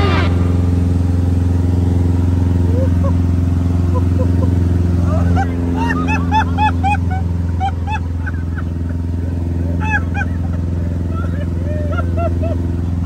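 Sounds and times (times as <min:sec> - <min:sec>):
light aircraft engine droning: 0:00.0 - 0:13.0.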